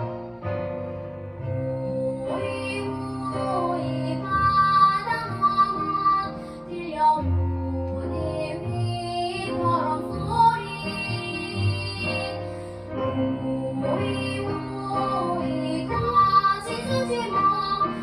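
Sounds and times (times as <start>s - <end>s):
instrumental accompaniment: 0.0s - 18.0s
child singing: 2.0s - 12.4s, 13.4s - 18.0s.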